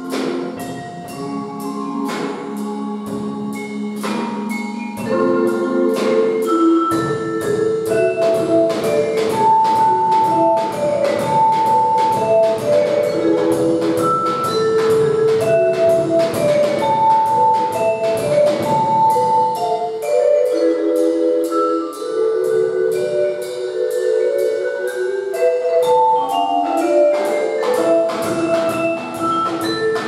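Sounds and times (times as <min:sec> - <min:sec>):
drums steady beat: 0:00.0 - 0:25.0, 0:26.7 - 0:30.0
live band playing: 0:00.0 - 0:30.0.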